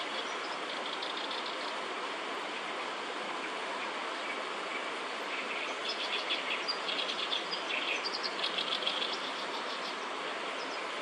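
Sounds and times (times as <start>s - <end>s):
reed warbler singing: 0.0s - 1.8s, 3.4s - 11.0s
background hiss: 0.0s - 11.0s.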